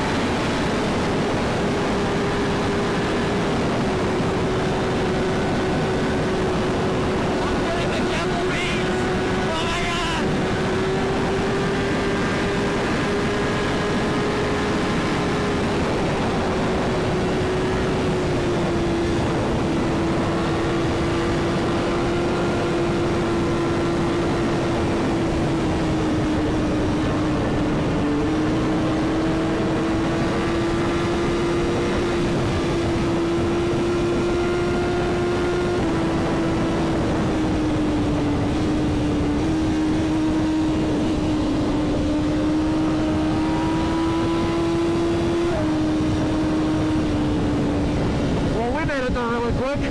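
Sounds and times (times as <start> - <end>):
motorcycle engine cruising: 0.0 - 49.9
wind noise: 0.0 - 49.9.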